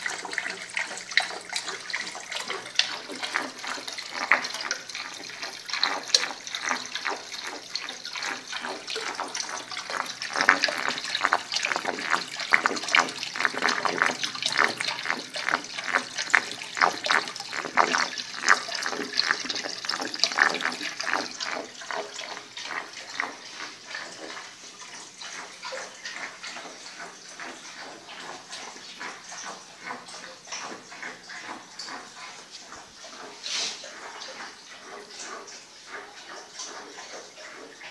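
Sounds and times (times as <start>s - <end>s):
water trickling and gurgling: 0.0s - 37.9s.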